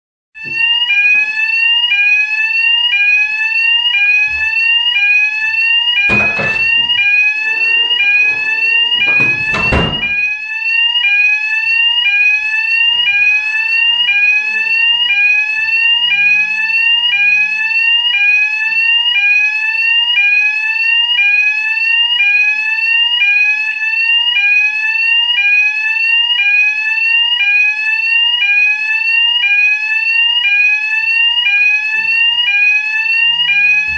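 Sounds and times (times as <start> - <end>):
fire alarm whooping: 0.4 - 33.9.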